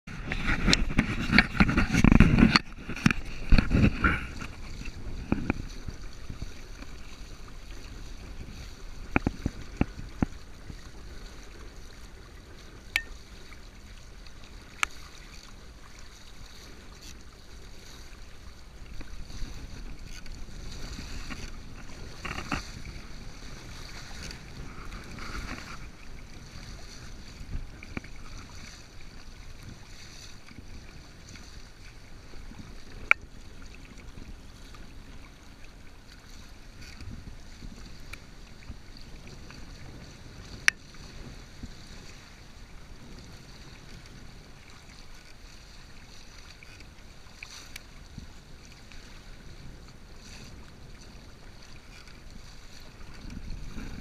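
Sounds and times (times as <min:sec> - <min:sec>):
water splashing against hull: 0:00.1 - 0:54.0
wind on microphone: 0:00.1 - 0:54.0.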